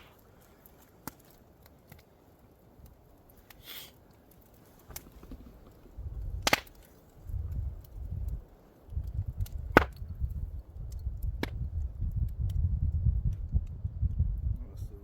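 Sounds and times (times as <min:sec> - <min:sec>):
campfire wood popping and cracking: 0:00.0 - 0:15.0.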